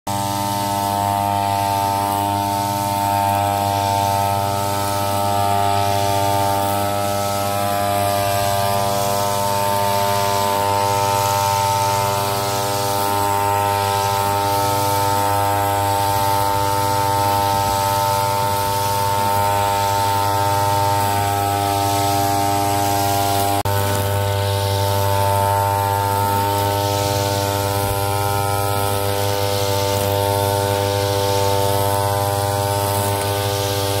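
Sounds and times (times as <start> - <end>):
brush cutter engine running: 0.1 - 34.0.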